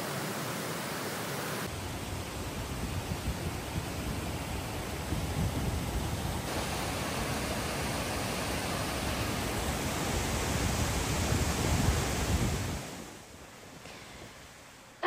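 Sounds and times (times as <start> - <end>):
waterfall rushing over boulders: 0.0 - 13.2.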